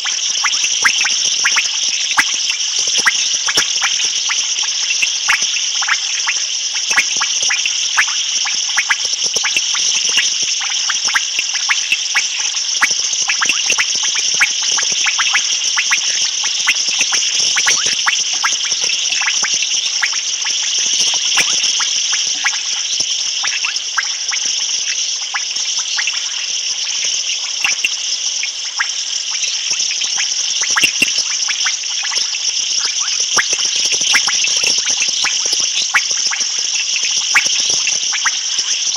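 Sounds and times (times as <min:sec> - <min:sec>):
frog clicks and calls: 0:00.0 - 0:38.9
high-pitched insect trilling: 0:00.0 - 0:38.9.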